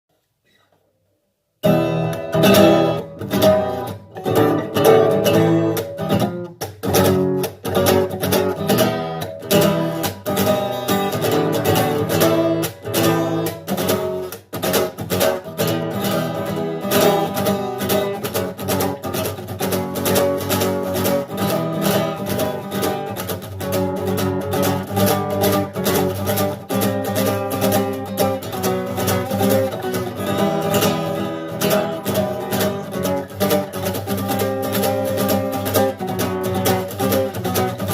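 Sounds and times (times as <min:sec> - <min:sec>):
acoustic guitar plucked and strummed: 0:01.6 - 0:37.9.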